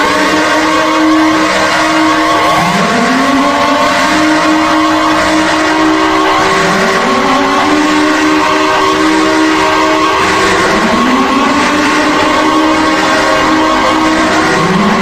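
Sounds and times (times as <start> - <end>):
steady alarm tones: 0.0 - 15.0
warning siren winding up: 0.0 - 15.0.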